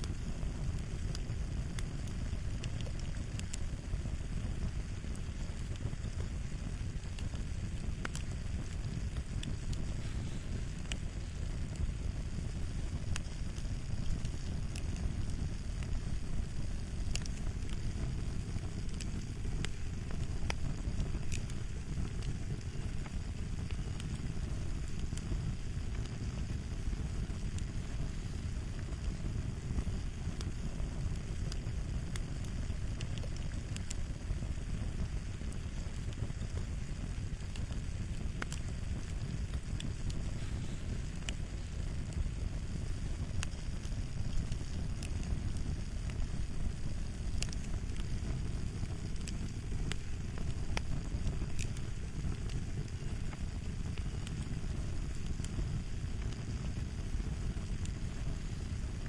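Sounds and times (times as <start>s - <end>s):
fire crackling: 0.0s - 59.0s.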